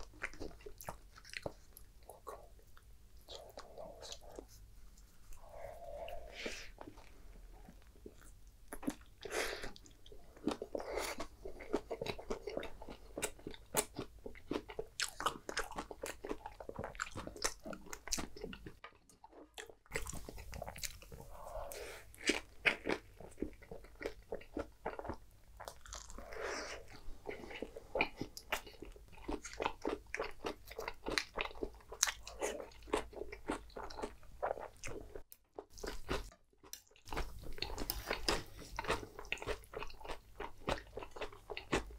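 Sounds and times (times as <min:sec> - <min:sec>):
biting and chewing taco: 0:07.7 - 0:41.9.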